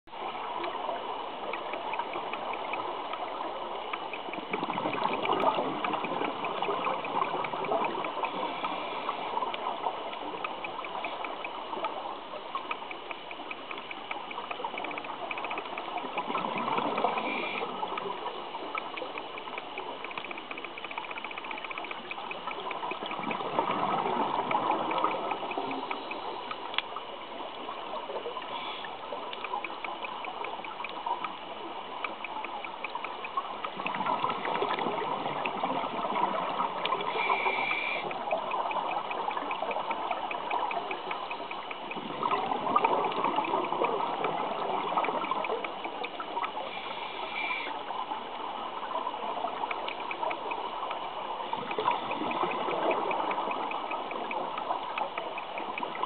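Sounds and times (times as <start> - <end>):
faint fast ticking: 0.1 - 56.0
regulator exhaust bubbles underwater: 0.1 - 56.0.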